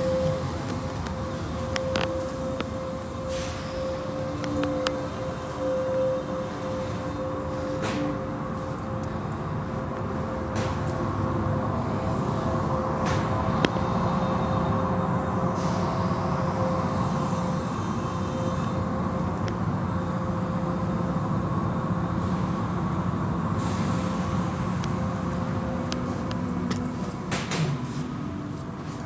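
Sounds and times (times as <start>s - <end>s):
car wash machinery running: 0.0s - 29.0s.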